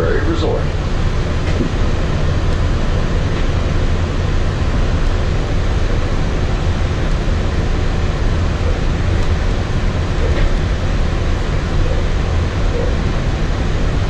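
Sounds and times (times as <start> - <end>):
monorail train rumble and hiss: 0.0 - 14.0.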